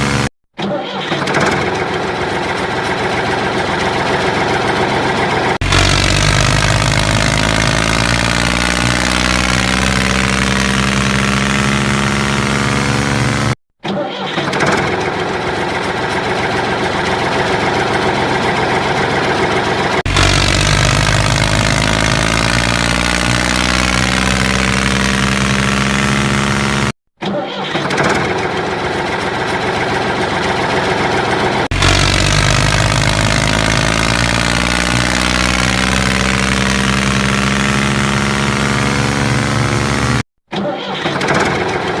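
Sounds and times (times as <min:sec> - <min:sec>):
tractor engine running: 0:00.0 - 0:00.3, 0:01.2 - 0:13.6, 0:14.7 - 0:27.0, 0:28.0 - 0:40.3.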